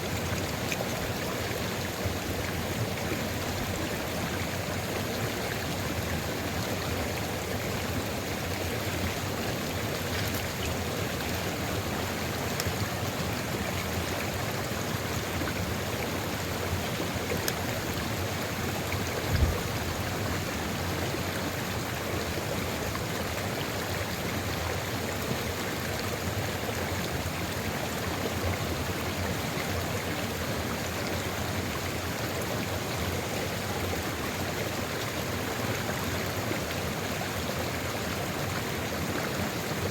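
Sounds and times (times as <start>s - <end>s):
river rushing and gurgling: 0.0s - 39.9s.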